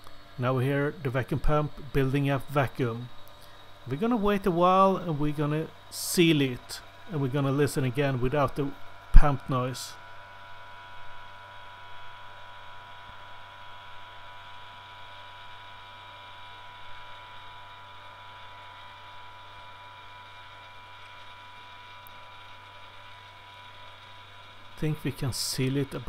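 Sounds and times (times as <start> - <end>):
vacuum pump humming: 0.0 - 26.0.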